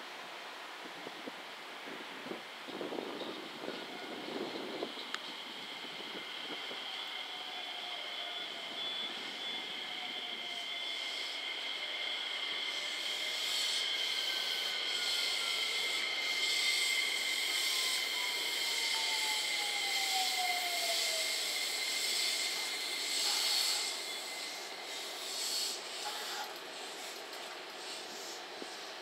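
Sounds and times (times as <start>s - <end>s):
hissy rolling train noise: 0.0s - 29.0s
electric train inverter whining: 2.7s - 29.0s.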